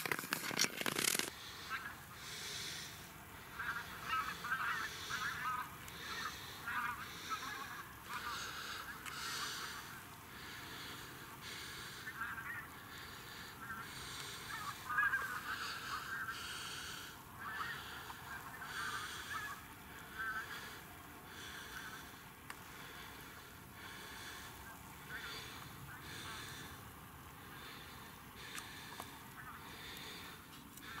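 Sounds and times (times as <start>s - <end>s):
geese calling in flight: 1.3s - 31.0s.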